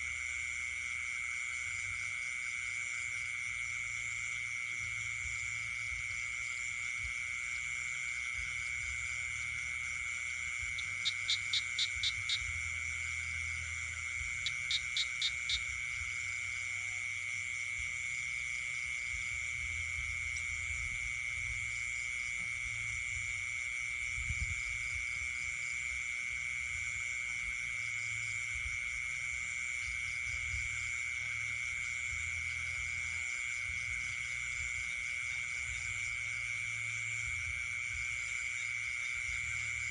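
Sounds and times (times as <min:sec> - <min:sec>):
frogs and insects trilling: 0:00.0 - 0:39.9.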